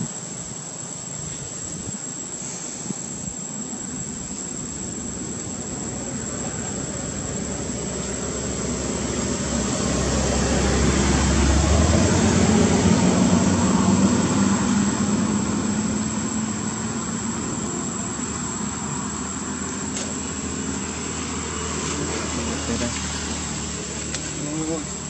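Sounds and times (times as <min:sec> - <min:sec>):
passing engine rumble: 0:00.0 - 0:25.0.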